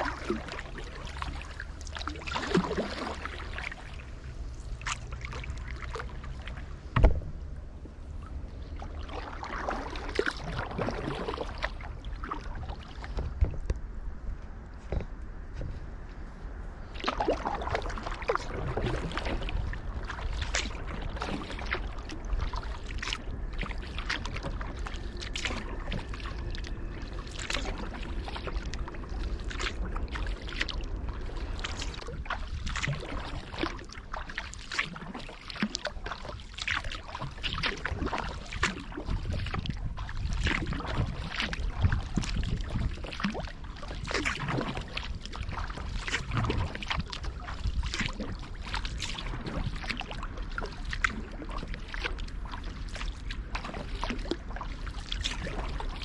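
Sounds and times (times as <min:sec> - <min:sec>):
kayak paddle strokes in water: 0:00.0 - 0:56.0.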